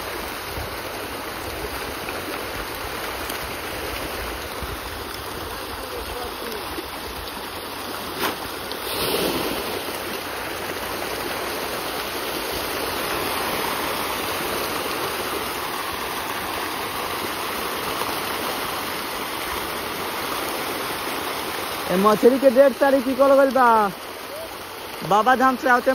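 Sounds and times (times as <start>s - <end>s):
fish splashing at water surface: 0.0s - 21.9s.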